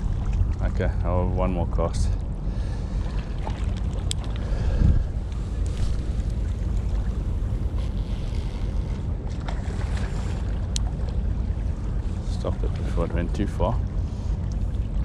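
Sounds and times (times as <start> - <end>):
wind buffeting microphone: 2.6 - 15.0.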